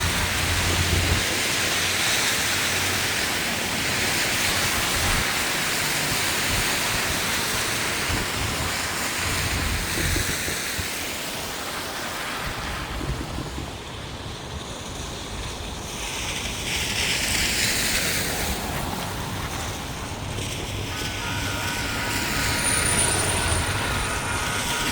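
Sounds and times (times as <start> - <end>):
rain: 0.0 - 24.9
tyres hissing on wet road: 0.0 - 24.9.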